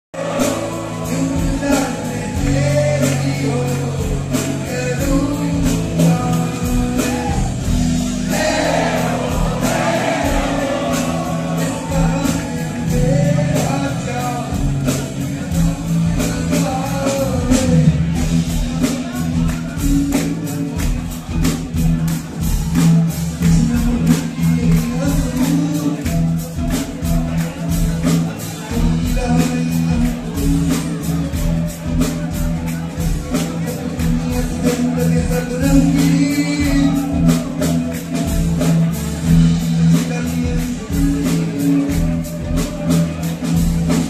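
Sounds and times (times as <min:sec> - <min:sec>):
keyboards: 0:00.1 - 0:44.0
man singing: 0:00.1 - 0:44.0
electric guitar: 0:00.2 - 0:44.0
steady beat: 0:00.2 - 0:44.0.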